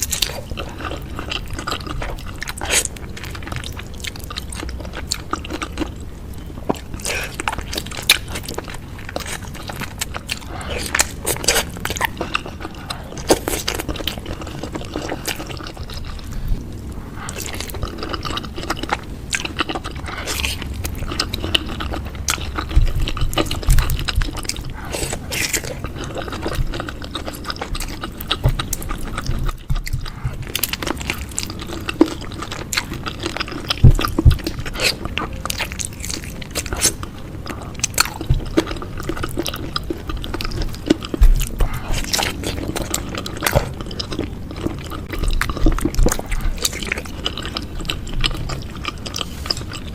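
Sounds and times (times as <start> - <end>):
wet chewing and slurping: 0.0 - 49.9.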